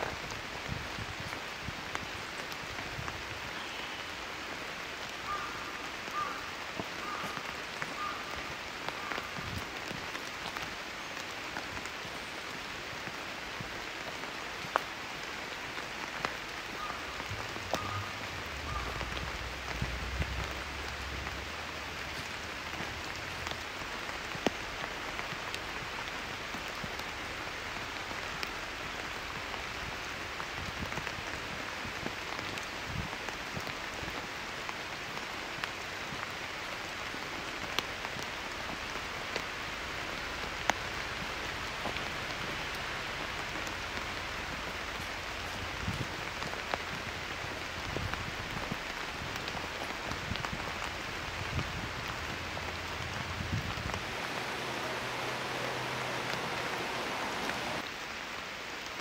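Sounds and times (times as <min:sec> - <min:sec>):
rain on leaves: 0:00.0 - 0:59.0.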